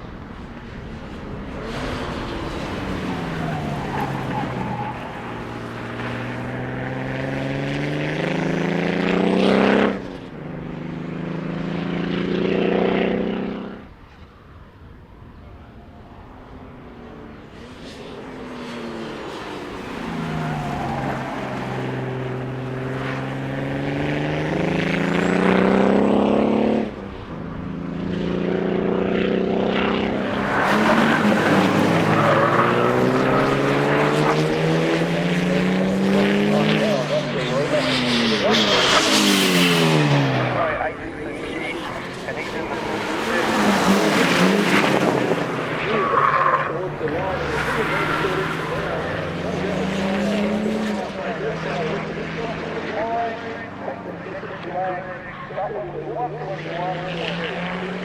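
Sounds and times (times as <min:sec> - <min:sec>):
race car engine accelerating: 0:00.0 - 0:14.0, 0:16.0 - 0:58.0.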